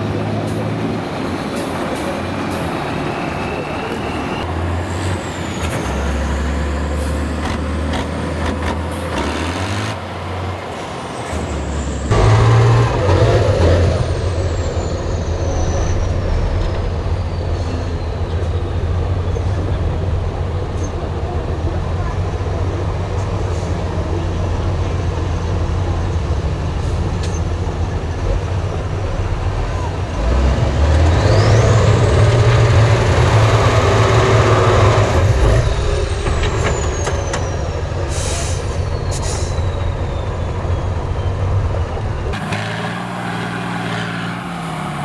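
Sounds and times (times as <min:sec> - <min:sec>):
diesel truck engine under load: 0:00.0 - 0:45.0.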